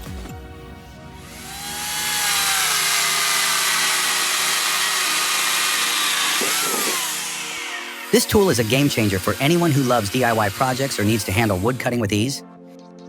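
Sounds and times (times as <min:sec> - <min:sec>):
power tool running: 0:01.1 - 0:12.2.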